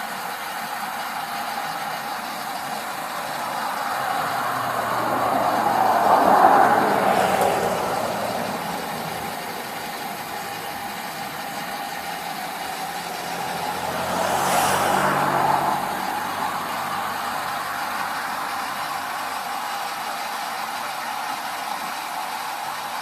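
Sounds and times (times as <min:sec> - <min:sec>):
cars passing on highway: 0:00.0 - 0:23.0.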